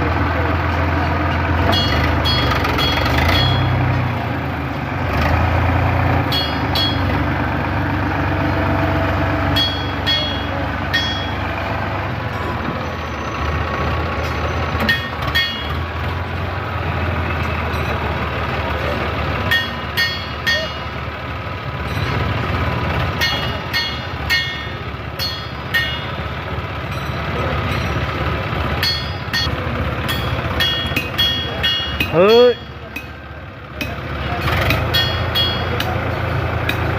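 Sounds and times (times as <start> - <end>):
diesel engines rumbling: 0.0 - 36.9.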